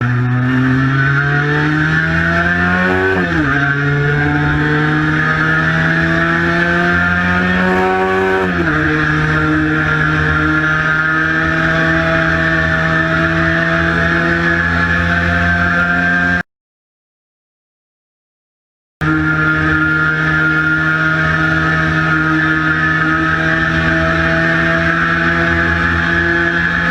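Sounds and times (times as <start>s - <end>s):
two-stroke motorcycle engine accelerating: 0.0s - 16.4s, 19.0s - 26.9s
wind and road noise: 0.0s - 16.4s, 19.0s - 26.9s.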